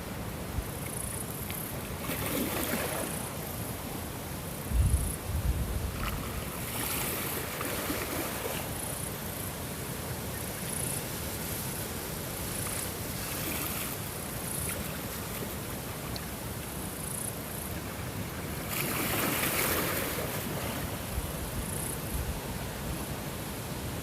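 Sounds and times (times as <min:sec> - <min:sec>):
wind: 0:00.0 - 0:24.0
ocean water rushing: 0:01.8 - 0:04.1, 0:05.9 - 0:24.0.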